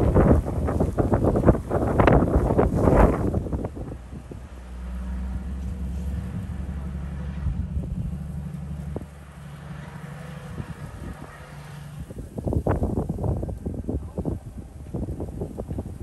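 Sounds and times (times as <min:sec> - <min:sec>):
vehicle engine humming: 0:00.0 - 0:16.0
wind buffeting microphone: 0:00.0 - 0:16.0.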